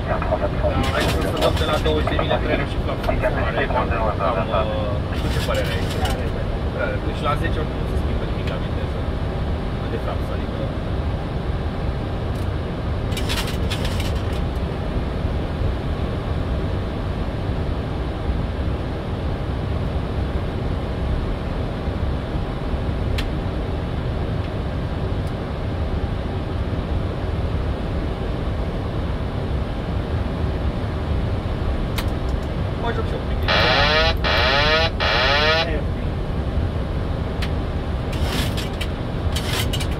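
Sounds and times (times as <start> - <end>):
cockpit noise in flight: 0.0 - 39.9.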